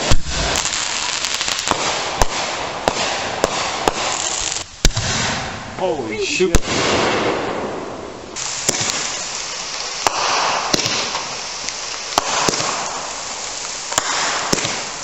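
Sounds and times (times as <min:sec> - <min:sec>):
continuous hiss: 0:00.0 - 0:15.0
fireworks popping: 0:00.0 - 0:15.0.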